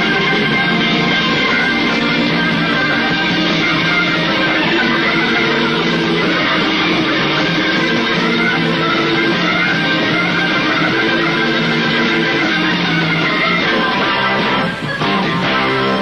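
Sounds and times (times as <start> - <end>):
electric guitars: 0.0 - 16.0
live rock band: 0.0 - 16.0.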